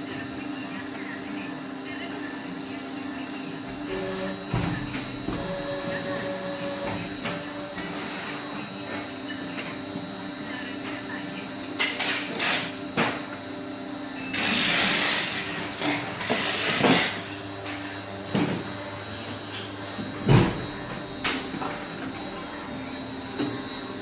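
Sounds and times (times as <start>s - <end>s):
machine mechanical hum: 0.0s - 24.0s.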